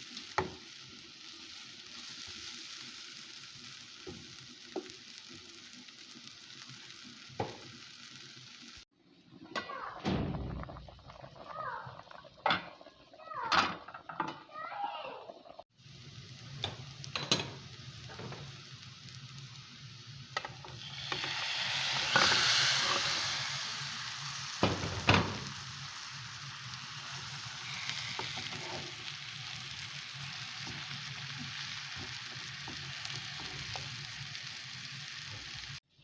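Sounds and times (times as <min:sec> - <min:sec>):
food sizzling in hot oil: 0:00.0 - 0:09.0, 0:09.6 - 0:36.0.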